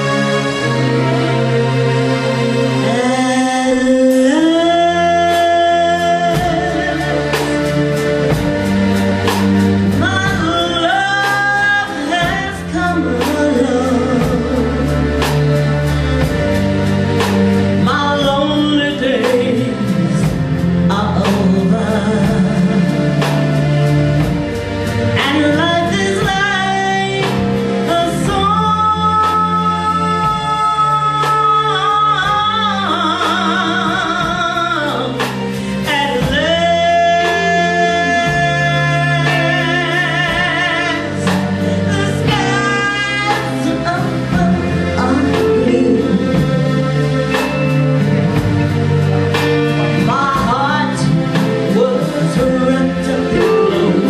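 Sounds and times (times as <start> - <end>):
bass guitar: 0.0 - 54.0
keyboards: 0.0 - 54.0
woman singing: 2.8 - 8.7, 9.9 - 15.6, 17.8 - 24.3, 25.2 - 48.4, 49.3 - 54.0
drums and cymbals: 4.1 - 54.0.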